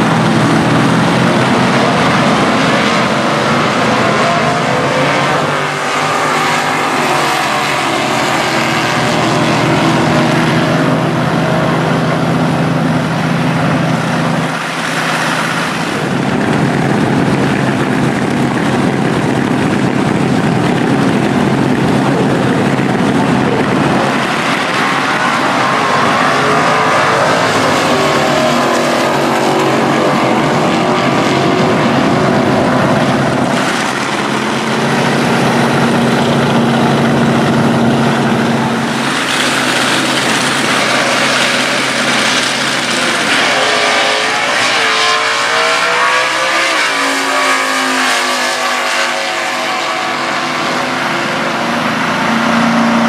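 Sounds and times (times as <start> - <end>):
drag race car engines revving: 0.0 - 53.0.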